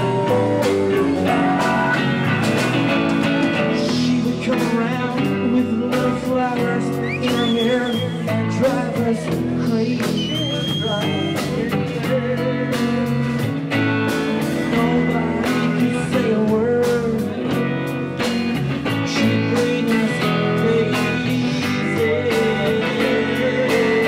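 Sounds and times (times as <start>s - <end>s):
electric guitars: 0.0s - 24.0s
man singing: 0.0s - 24.0s
steady drum beat: 0.0s - 24.0s.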